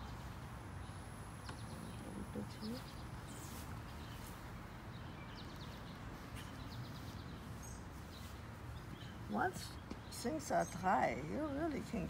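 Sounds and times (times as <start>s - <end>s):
faint birds chirping: 0.0s - 12.0s
low steady background rumble: 0.0s - 12.0s.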